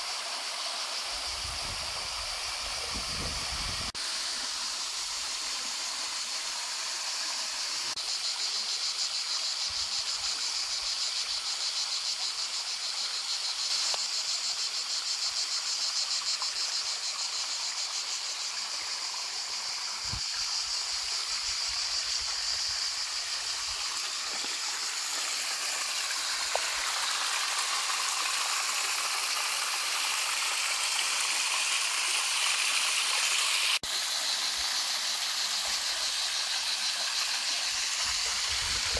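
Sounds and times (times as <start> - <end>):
high insect chirring: 0.0 - 38.9
mountain stream over rocks: 0.0 - 38.9.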